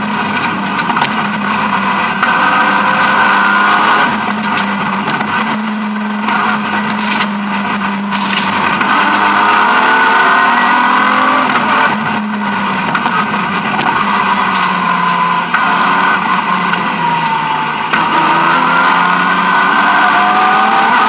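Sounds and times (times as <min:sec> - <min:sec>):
car engine at full throttle: 0:00.0 - 0:21.0.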